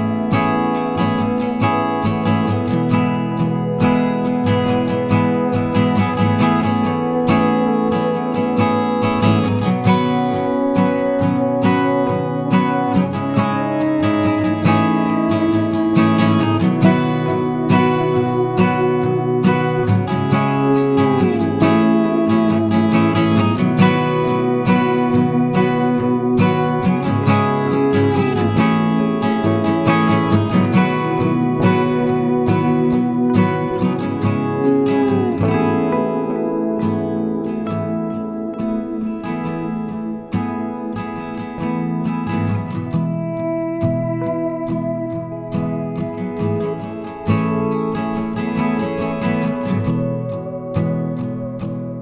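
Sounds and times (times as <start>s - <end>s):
acoustic guitar piece: 0.0s - 52.0s.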